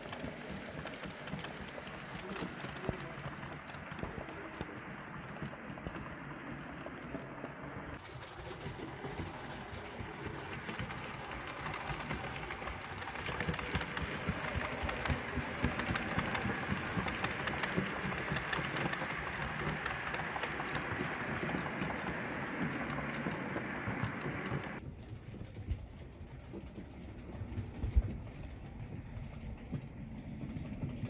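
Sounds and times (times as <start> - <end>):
clicking over rail joints: 0.0 - 31.0
model train wheels and motor rumbling: 0.0 - 31.0.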